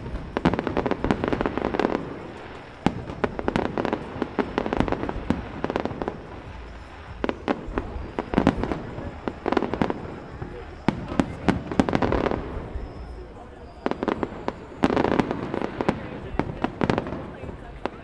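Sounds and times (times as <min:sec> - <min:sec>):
fireworks bursting and crackling: 0:00.0 - 0:18.0.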